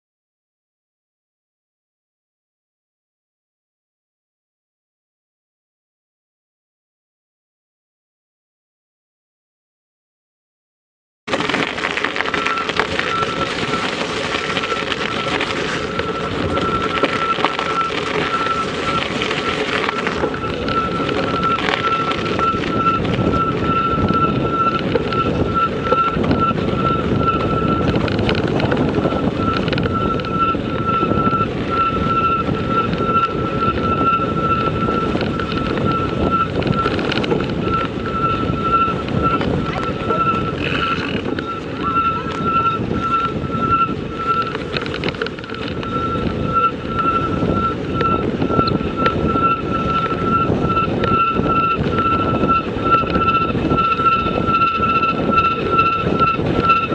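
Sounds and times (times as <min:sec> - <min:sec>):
high pulsing whine: 0:11.3 - 0:56.9
vehicle rumble: 0:11.3 - 0:56.9
wind on microphone: 0:11.3 - 0:56.9.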